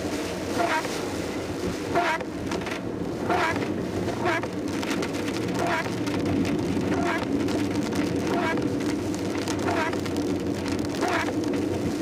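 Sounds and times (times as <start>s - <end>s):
car engine rumble: 0.0s - 12.0s
rain on car body: 0.0s - 12.0s
tyres on wet road: 0.0s - 12.0s
windscreen wipers swishing: 0.0s - 12.0s.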